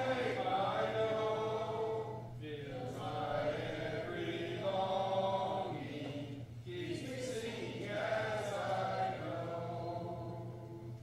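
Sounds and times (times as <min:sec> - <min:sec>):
congregation singing a hymn: 0:00.0 - 0:11.0.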